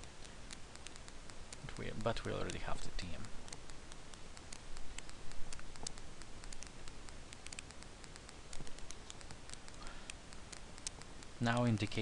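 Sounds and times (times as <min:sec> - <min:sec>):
faint steady hiss: 0:00.0 - 0:12.0
mouse and keyboard clicks: 0:00.0 - 0:12.0.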